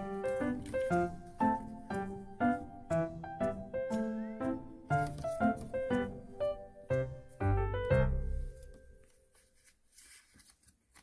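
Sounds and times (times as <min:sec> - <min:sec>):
light piano melody: 0:00.0 - 0:09.5.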